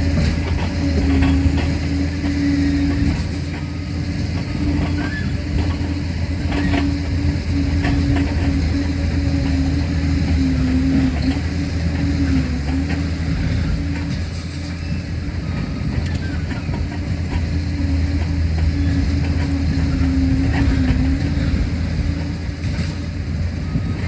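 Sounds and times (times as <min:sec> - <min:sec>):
diesel engine running with whine: 0:00.0 - 0:24.0
steel tracks clanking: 0:00.0 - 0:24.0.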